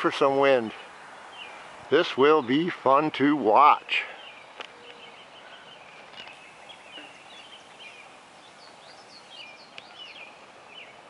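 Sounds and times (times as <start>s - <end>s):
faint steady hiss: 0.0s - 11.0s
small birds chirping: 0.0s - 11.0s.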